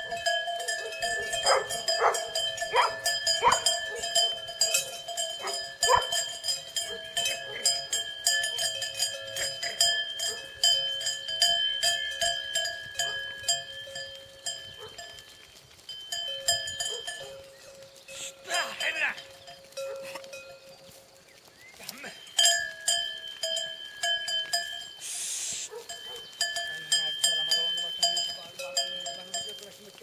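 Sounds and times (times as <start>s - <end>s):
animal bells clanking and ringing: 0.0s - 30.0s
hooves on gravel: 0.0s - 30.0s.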